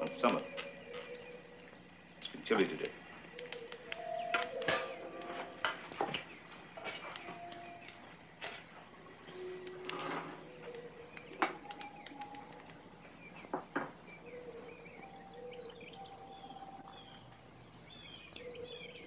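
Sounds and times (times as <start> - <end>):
birds chirping: 0.0 - 19.0
faint held notes: 0.0 - 19.0.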